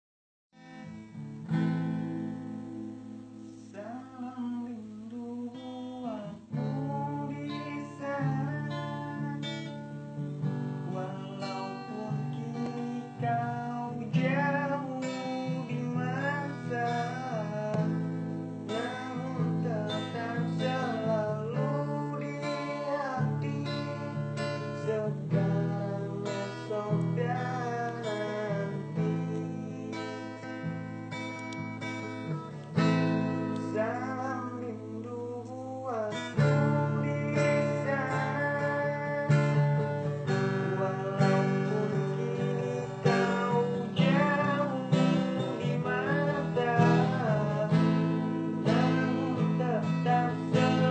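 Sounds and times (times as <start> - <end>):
acoustic guitar strumming: 0.6 - 50.9
person singing slow melody: 0.6 - 50.9.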